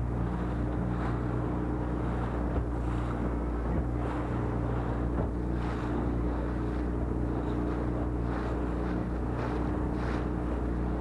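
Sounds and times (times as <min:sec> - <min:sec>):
boat motor running: 0:00.0 - 0:11.0
water slapping against hull: 0:00.0 - 0:11.0.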